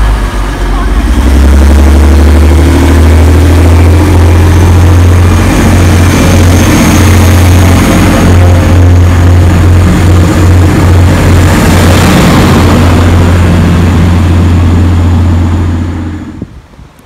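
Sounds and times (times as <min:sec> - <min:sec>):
diesel train engine drone: 0:00.0 - 0:17.0
rushing wheel and air noise: 0:00.0 - 0:17.0.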